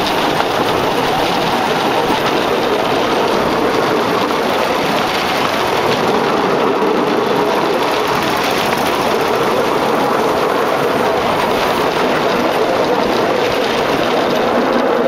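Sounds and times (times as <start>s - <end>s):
small gasoline engine running: 0.0s - 15.0s
wheels running on rails: 0.0s - 15.0s.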